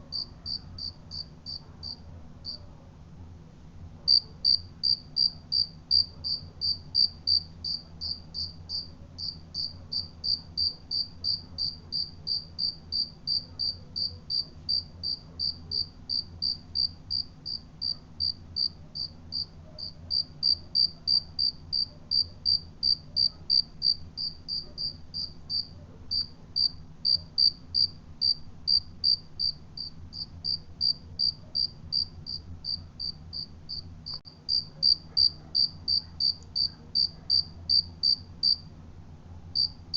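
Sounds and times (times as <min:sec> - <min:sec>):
cricket chirping: 0:00.1 - 0:02.6, 0:04.1 - 0:38.6, 0:39.6 - 0:39.9.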